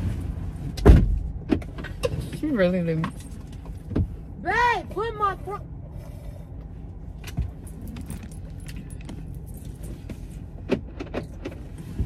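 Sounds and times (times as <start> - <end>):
low cabin hum: 0.0 - 12.0.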